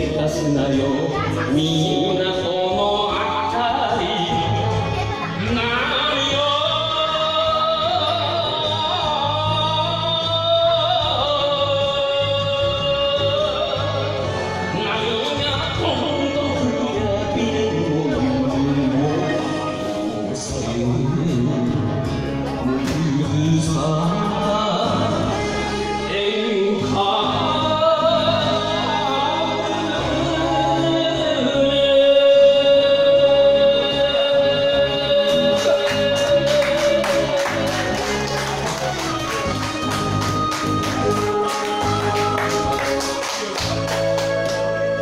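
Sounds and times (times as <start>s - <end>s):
man singing into a microphone: 0.0s - 45.0s
recorded backing track: 0.0s - 45.0s.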